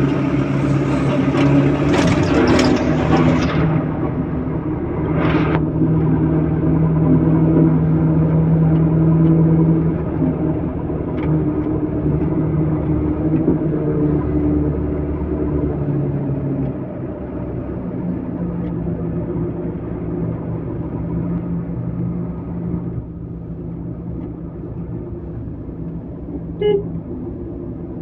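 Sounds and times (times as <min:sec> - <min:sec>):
heavy diesel engine running: 0:00.0 - 0:27.8.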